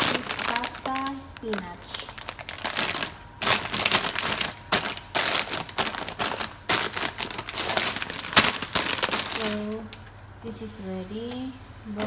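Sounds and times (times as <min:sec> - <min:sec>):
dried pasta shifting: 0:00.0 - 0:10.0
plastic bag crinkling: 0:00.0 - 0:10.1.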